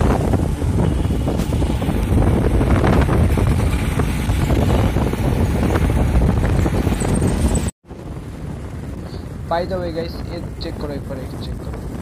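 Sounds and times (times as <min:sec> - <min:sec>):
motorcycle engine and road noise: 0:00.0 - 0:12.0
wind buffeting microphone: 0:00.0 - 0:12.0.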